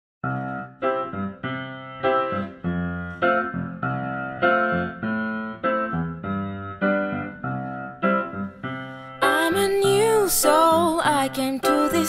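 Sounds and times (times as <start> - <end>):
piano chords: 0.2 - 12.0.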